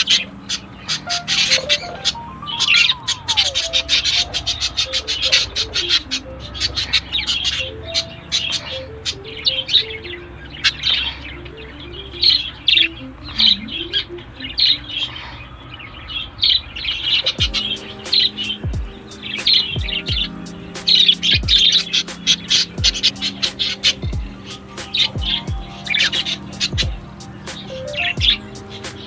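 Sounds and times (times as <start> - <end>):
background music: 0.0 - 29.0
small birds chirping: 0.0 - 29.0.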